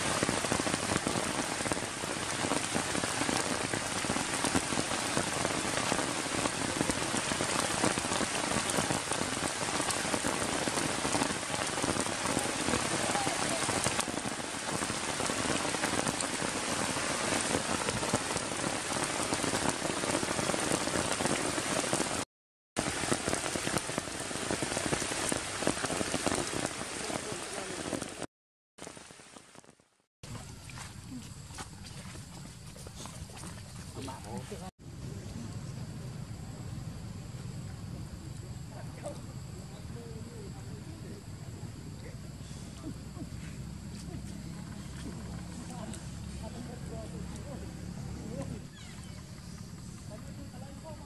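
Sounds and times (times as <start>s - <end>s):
rain on wet grass: 0.0s - 36.5s, 43.6s - 51.0s.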